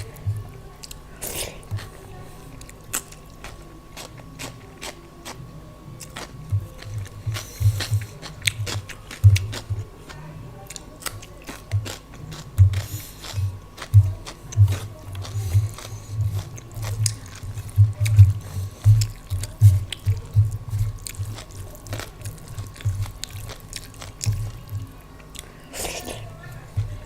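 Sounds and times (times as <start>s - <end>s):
chewing with wet mouth clicks: 0.0s - 5.4s, 6.0s - 27.0s.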